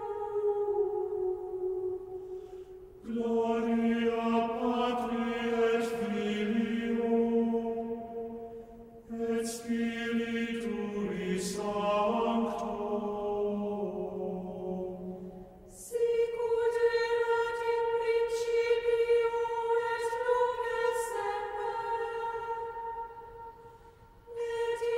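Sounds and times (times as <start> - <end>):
slow chanted singing: 0.0 - 24.9.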